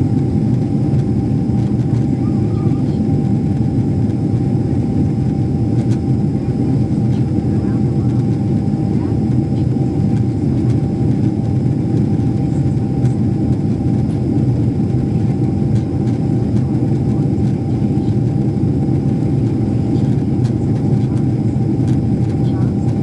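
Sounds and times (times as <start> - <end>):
jet engines and airflow rumble: 0.0 - 23.0.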